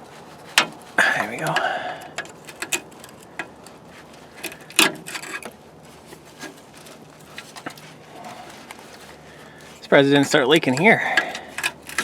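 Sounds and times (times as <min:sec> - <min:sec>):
hand tools clicking and rubbing: 0:00.2 - 0:12.0.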